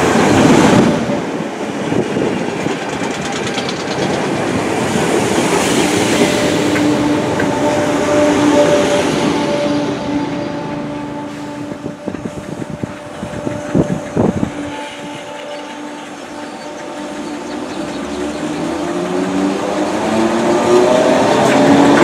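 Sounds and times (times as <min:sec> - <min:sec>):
train knocks and clatters: 0:00.0 - 0:22.0.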